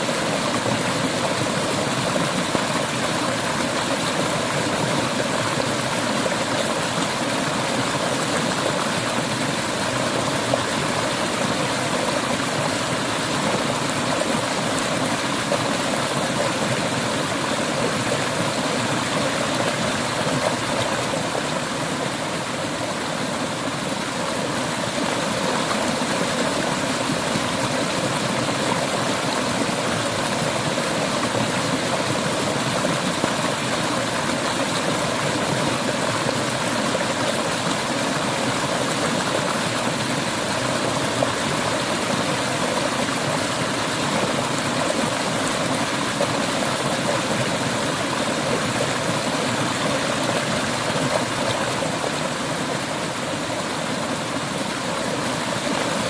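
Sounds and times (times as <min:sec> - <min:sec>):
river water splashing over rocks: 0:00.0 - 0:56.0.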